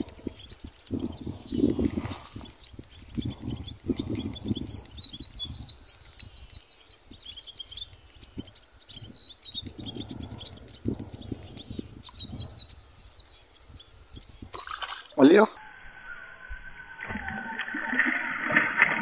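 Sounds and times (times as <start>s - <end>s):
bird chirping trill: 0.2s - 17.0s.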